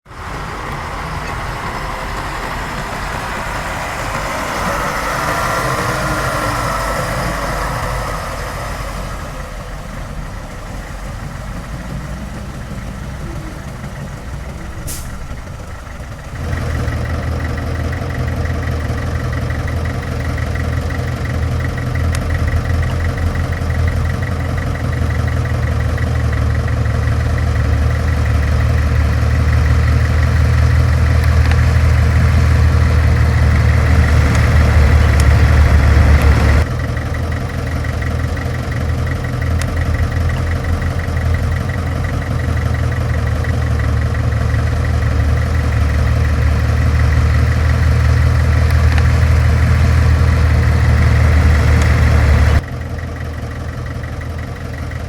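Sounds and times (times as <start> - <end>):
rushing noise: 0.0 - 19.6, 27.4 - 52.6
diesel engine ticking: 0.0 - 55.0.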